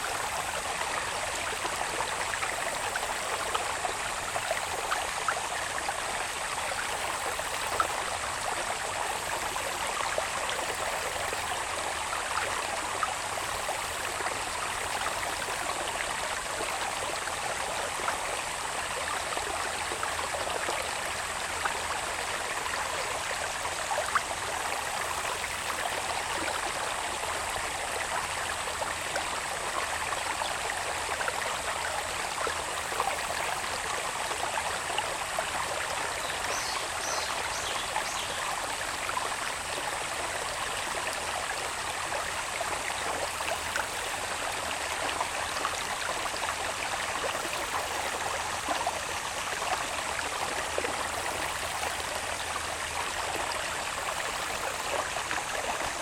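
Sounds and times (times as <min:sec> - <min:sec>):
water babbling in a channel: 0:00.0 - 0:56.0.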